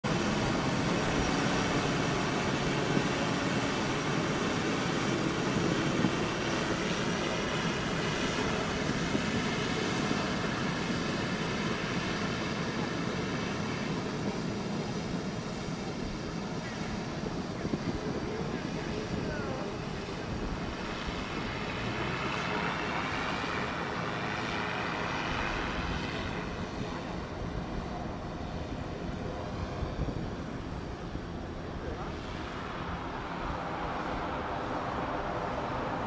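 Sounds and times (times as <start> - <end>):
turboprop aircraft engines droning: 0.0 - 36.0.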